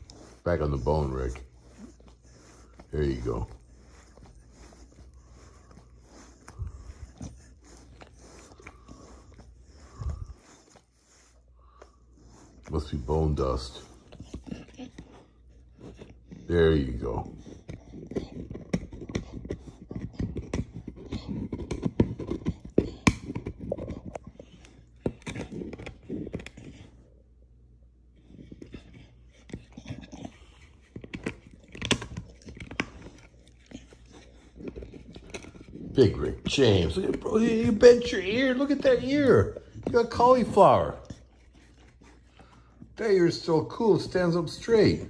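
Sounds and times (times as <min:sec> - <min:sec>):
dog crunching bone: 0:00.0 - 0:27.2, 0:28.0 - 0:45.0.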